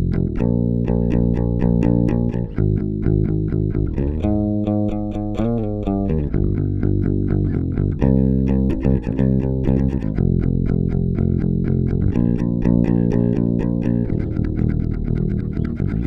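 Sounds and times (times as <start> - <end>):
electric bass plucked fingerstyle: 0.0 - 16.0.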